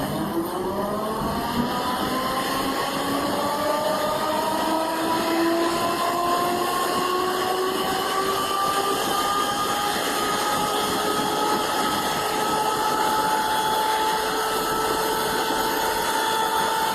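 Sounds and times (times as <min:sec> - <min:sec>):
machine whining: 0:00.0 - 0:16.9
noisy hum: 0:00.0 - 0:16.9.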